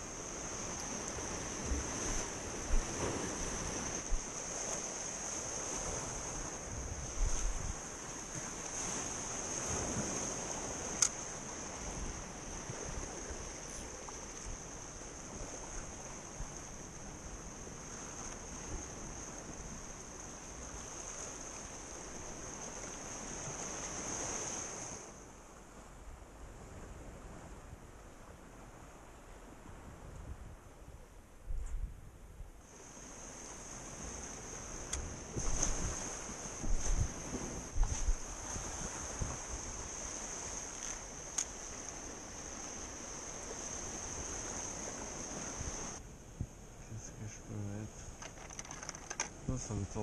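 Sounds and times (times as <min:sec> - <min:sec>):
surf washing against rocks: 0:00.0 - 0:25.3, 0:32.7 - 0:46.1, 0:47.2 - 0:50.0
wind on microphone: 0:00.0 - 0:50.0.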